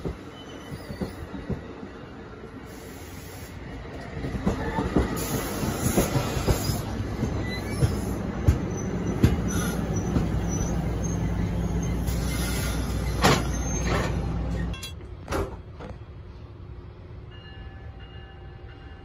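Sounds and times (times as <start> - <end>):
train cars rolling past: 0.0 - 19.0.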